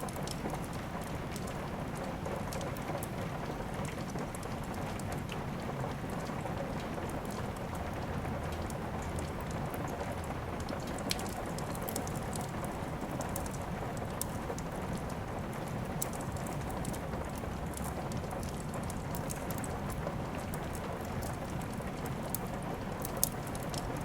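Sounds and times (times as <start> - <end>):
steady rain: 0.0 - 24.0
wood fire crackling and popping: 0.1 - 5.4, 6.0 - 24.0.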